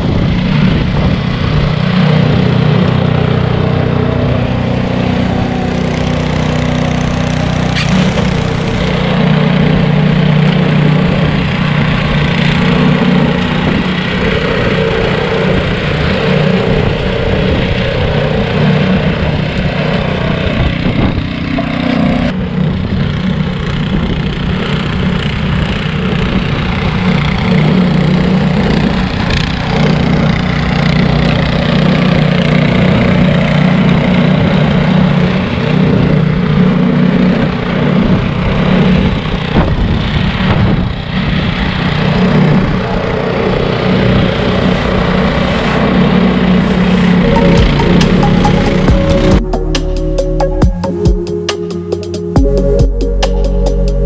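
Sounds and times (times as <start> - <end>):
diesel engine under load: 0.0 - 54.0
snowblower rushing noise: 0.0 - 54.0.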